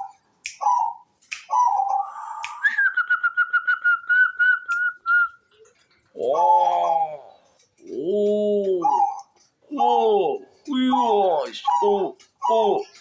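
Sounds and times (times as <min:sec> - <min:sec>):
dove calling with whistled notes: 0:00.0 - 0:05.5, 0:06.2 - 0:13.0.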